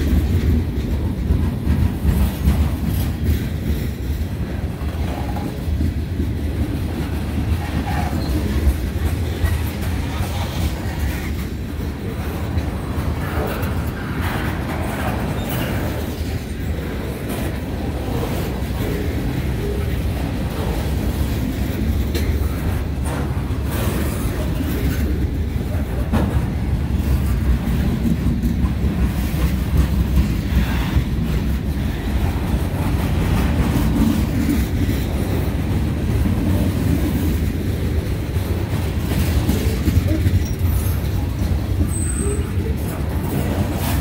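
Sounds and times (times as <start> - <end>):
train wheels rumbling on rails: 0.0 - 44.0
wheels clicking and clacking: 0.0 - 44.0.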